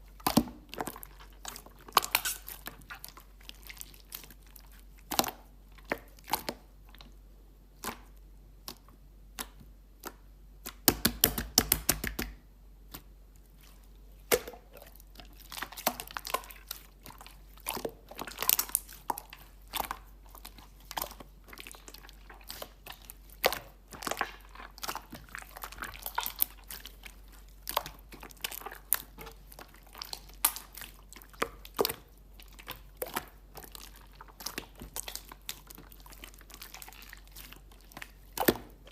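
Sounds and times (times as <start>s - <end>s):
slime being squished: 0.0s - 38.9s.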